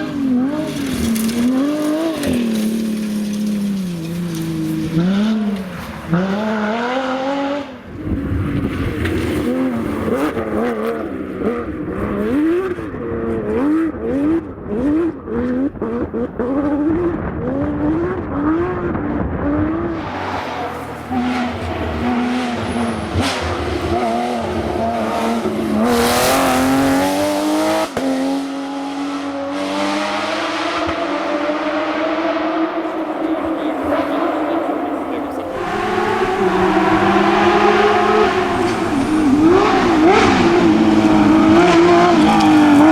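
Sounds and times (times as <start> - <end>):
rally car engine revving: 0.0 - 42.9.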